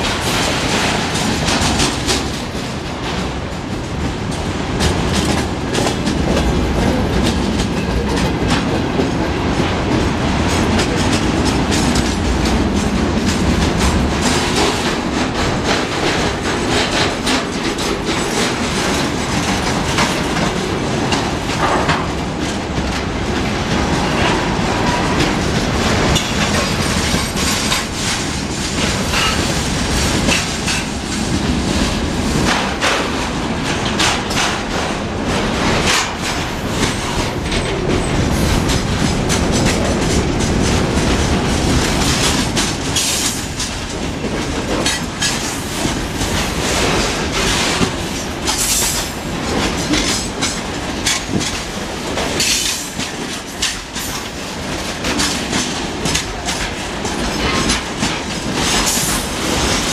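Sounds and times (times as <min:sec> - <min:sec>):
freight train rumbling: 0:00.0 - 0:59.9
wheels clattering over rail joints: 0:00.0 - 0:59.9.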